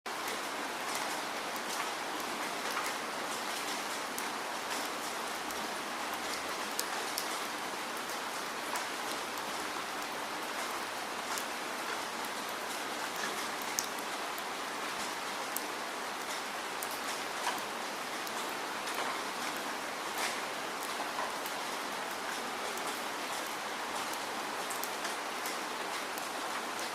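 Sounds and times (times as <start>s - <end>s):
raindrops pattering on a surface: 0.1s - 26.9s
steady falling rain: 0.1s - 26.9s.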